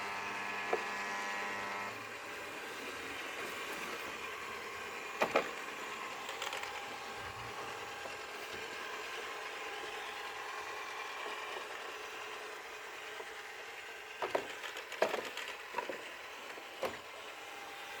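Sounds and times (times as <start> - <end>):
robot vacuum whining: 0.0 - 18.0.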